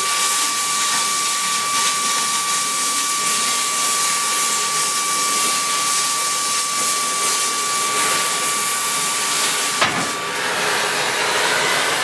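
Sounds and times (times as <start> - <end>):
cutting torch hissing: 0.0 - 12.0.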